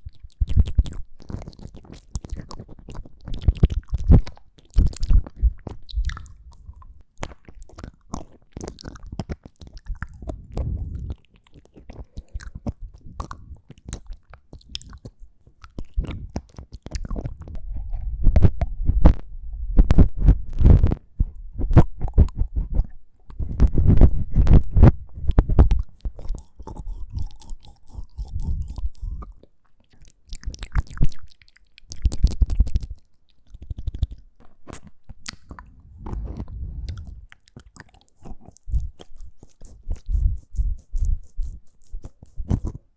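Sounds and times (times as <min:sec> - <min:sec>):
mouth clicks and smacking: 0:00.0 - 0:19.2, 0:19.9 - 0:42.9.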